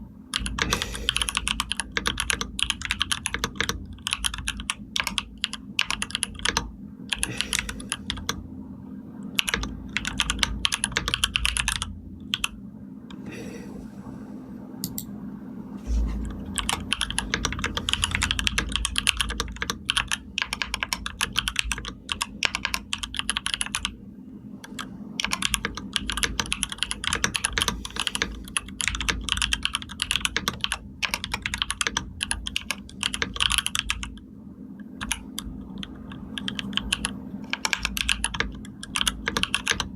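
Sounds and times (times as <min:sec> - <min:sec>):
keyboard typing clicks: 0:00.3 - 0:08.4, 0:09.4 - 0:13.3, 0:14.8 - 0:15.1, 0:16.1 - 0:24.0, 0:24.6 - 0:34.2, 0:35.0 - 0:39.9.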